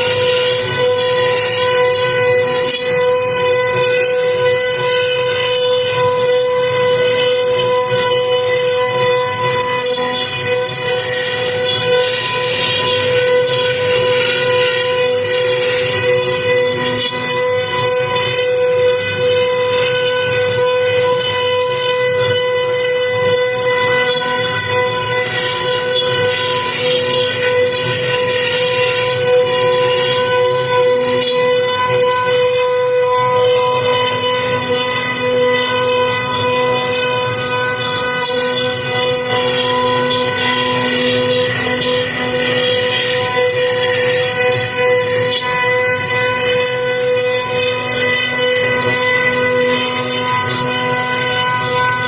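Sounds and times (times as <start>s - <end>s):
rough cutting noise: 0.0s - 52.0s
router spindle whine: 0.0s - 52.0s.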